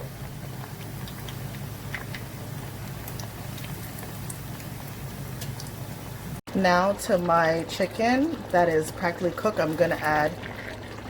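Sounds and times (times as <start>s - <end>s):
food crackling in a pot: 0.0s - 11.0s.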